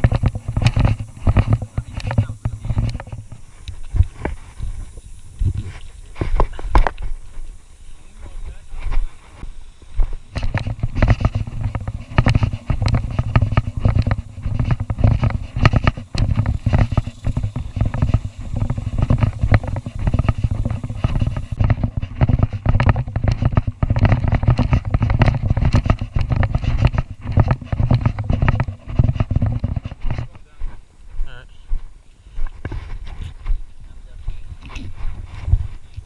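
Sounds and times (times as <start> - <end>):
camera jostled by walking: 0.0 - 36.0.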